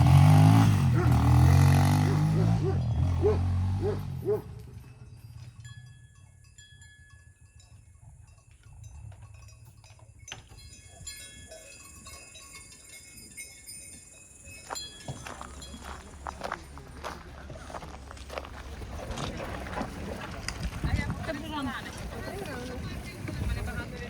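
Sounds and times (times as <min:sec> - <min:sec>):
livestock bells clinking: 0:00.0 - 0:24.0.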